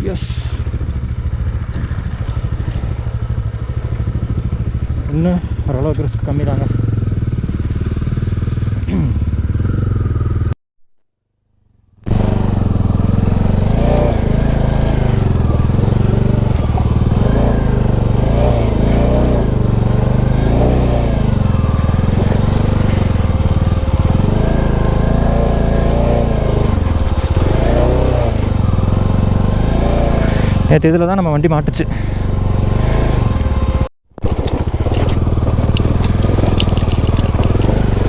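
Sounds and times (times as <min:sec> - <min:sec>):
motorcycle engine running: 0:00.0 - 0:10.6, 0:12.0 - 0:38.0.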